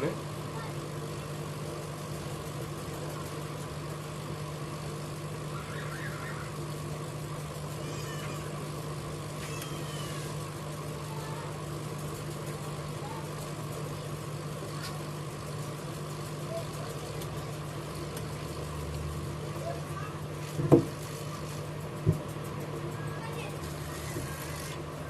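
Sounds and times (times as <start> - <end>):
hot air station fan hum: 0.0 - 25.0.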